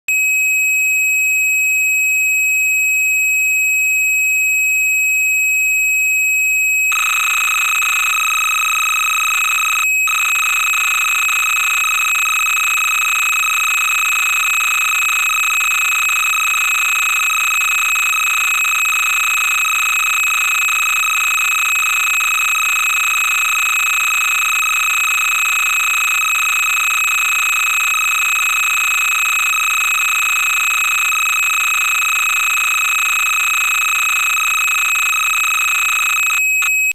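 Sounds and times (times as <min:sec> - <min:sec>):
buzzing two-tone data signal: 0:06.4 - 0:36.9.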